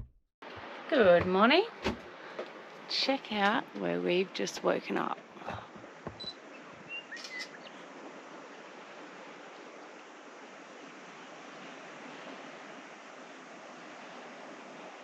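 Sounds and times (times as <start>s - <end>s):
sea: 0.4s - 15.0s
wind: 0.4s - 15.0s.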